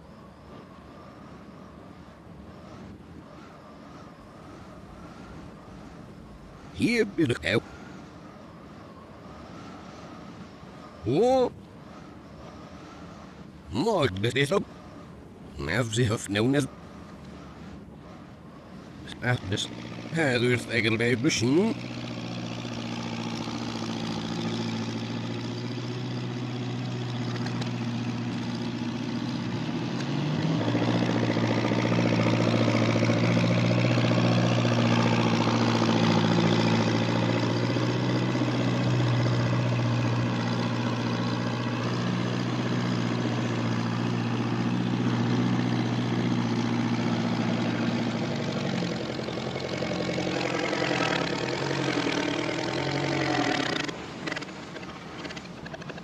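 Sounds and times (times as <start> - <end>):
vehicle engine humming reversed: 0.0 - 56.0.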